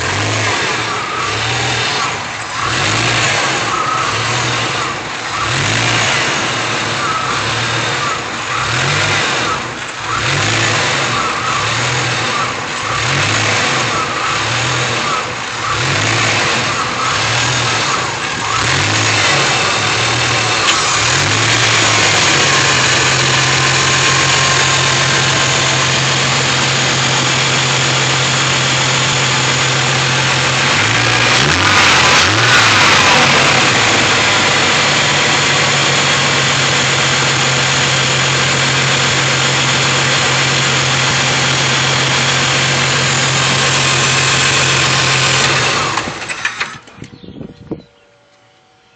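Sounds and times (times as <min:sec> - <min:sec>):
car engine idling rough: 0:00.0 - 0:47.3.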